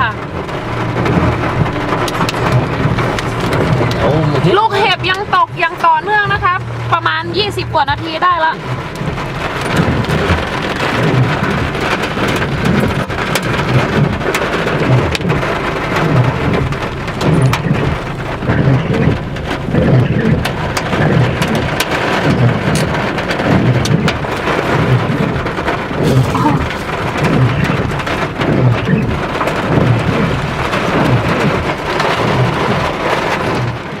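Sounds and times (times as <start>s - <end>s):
hail and rain pelting a car: 0.0s - 34.0s.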